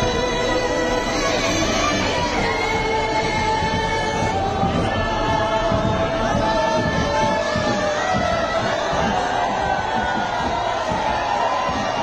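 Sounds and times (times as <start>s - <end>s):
large crowd noise: 0.0s - 12.0s
music with long held notes: 0.0s - 12.0s.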